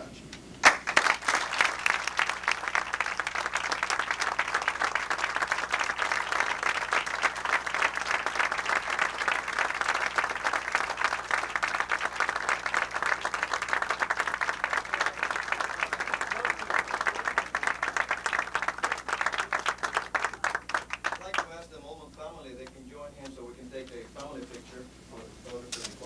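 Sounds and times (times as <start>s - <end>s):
audience applauding: 0.6s - 21.6s.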